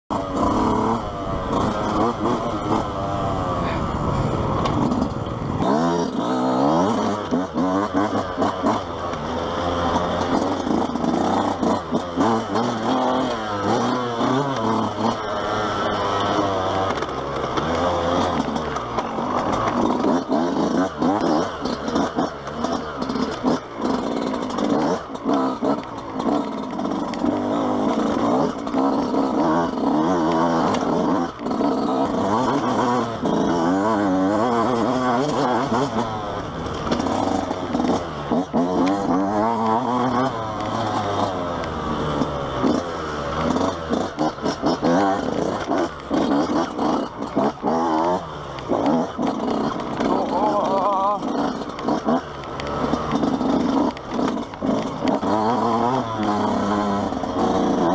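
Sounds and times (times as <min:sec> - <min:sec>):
dirt bike engine revving: 0:00.1 - 0:57.9.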